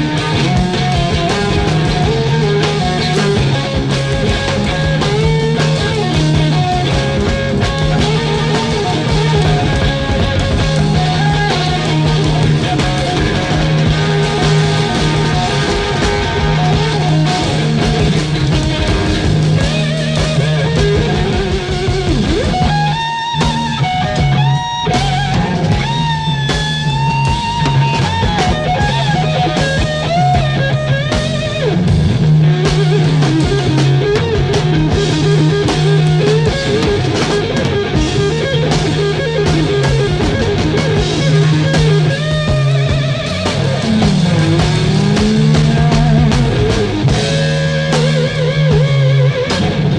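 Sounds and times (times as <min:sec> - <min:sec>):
bass line: 0:00.0 - 0:49.9
drum kit: 0:00.0 - 0:49.9
lead guitar bending notes: 0:00.0 - 0:49.9.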